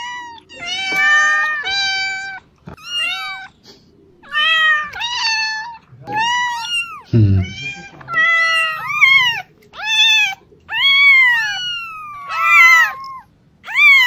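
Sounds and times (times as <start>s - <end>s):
kitten meowing: 0.0s - 3.5s, 4.2s - 14.0s.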